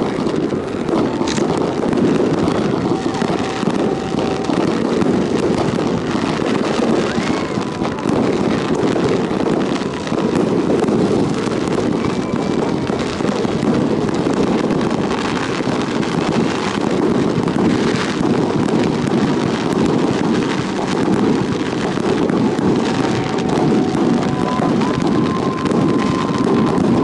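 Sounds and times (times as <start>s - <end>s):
faint fireworks popping: 0.0s - 27.0s
wind rumbling on microphone: 0.0s - 27.0s.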